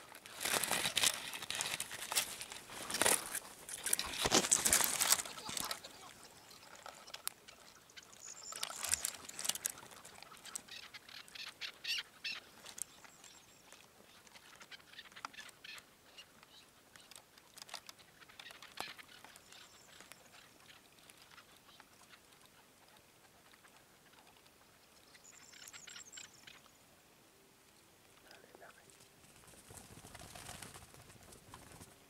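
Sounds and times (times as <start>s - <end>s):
partridge clucking calls: 0.0s - 26.7s.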